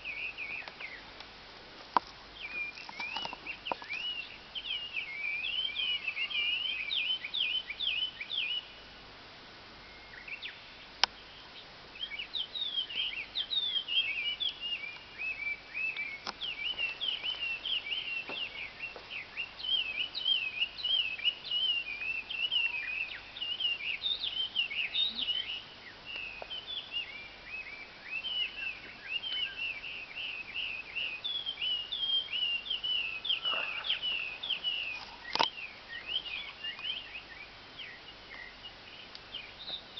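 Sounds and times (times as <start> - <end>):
small birds chirping: 0.0 - 9.0, 9.8 - 39.9.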